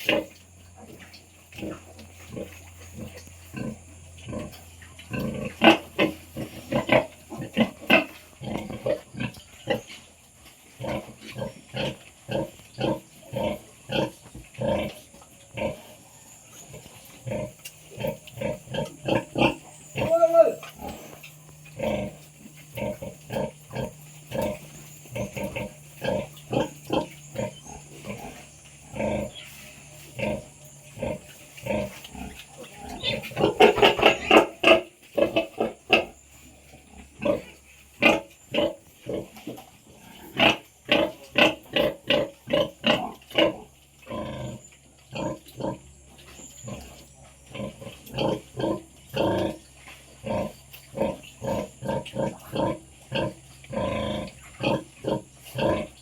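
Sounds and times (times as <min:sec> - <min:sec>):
pigs grunting: 0:00.0 - 0:56.0.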